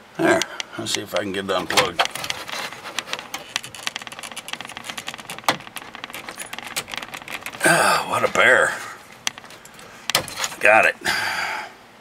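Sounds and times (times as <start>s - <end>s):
plastic connector clicks and rattles: 0.4s - 10.6s.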